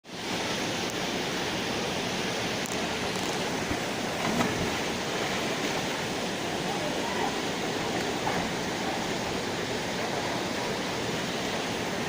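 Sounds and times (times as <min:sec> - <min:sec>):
waterfall rushing: 0:00.1 - 0:12.0.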